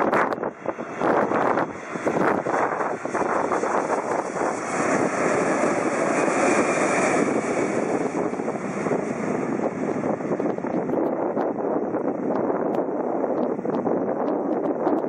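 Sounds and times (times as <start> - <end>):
jet airliner passing overhead: 0.0 - 14.6.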